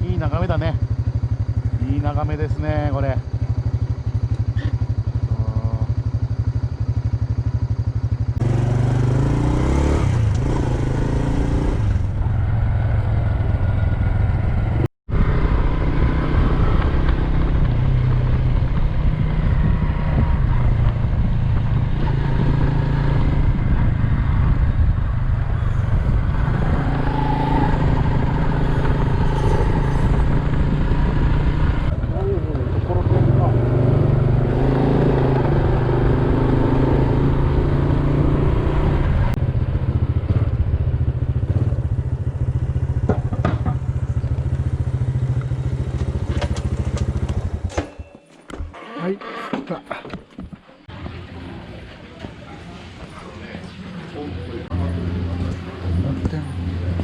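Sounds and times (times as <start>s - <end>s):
motorcycle engine running: 0.0s - 47.8s.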